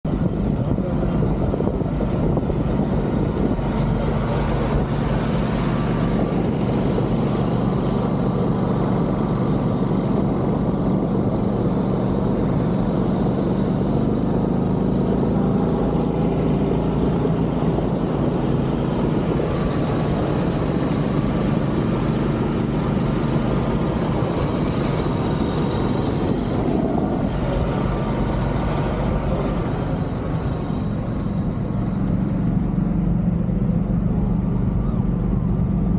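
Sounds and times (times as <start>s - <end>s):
golf cart drive whine: 0.1s - 35.9s
wind drone over microphone: 0.1s - 35.9s.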